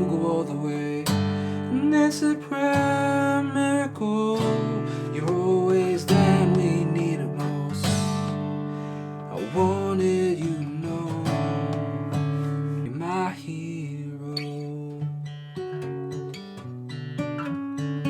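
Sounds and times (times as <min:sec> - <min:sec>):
acoustic guitar strummed and picked: 0:00.0 - 0:18.0.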